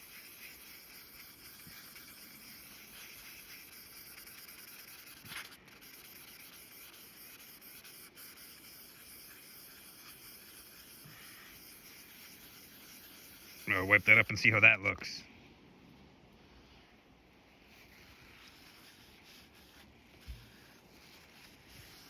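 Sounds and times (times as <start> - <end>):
sandpaper rubbing on steel: 0.0 - 15.0, 17.7 - 22.0.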